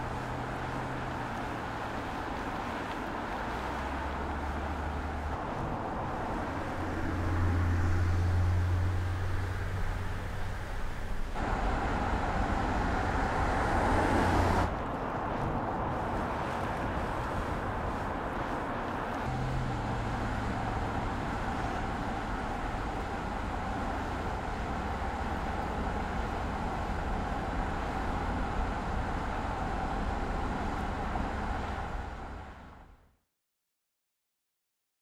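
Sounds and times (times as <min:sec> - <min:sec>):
car engine and tyre noise: 0:00.0 - 0:33.2.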